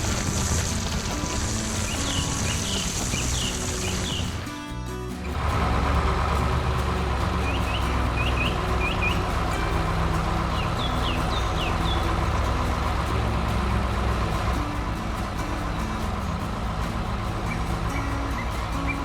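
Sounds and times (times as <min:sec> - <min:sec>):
birds chirping: 0:00.0 - 0:19.0
heavy vehicle engine running: 0:00.0 - 0:19.0.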